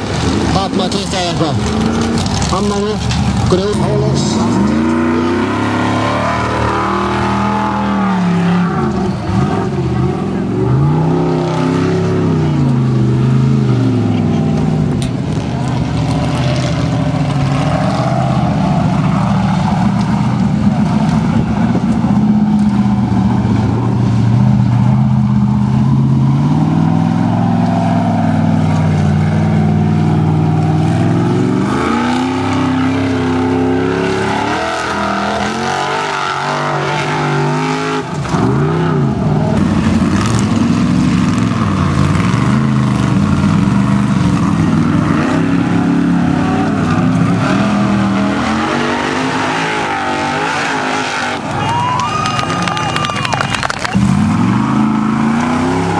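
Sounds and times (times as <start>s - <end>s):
buggy engine revving: 0.0s - 55.9s.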